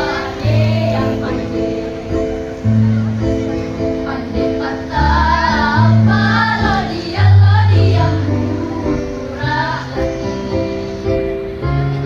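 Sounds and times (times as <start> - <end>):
girls choir singing: 0.0 - 12.0
held bass notes: 0.0 - 12.0.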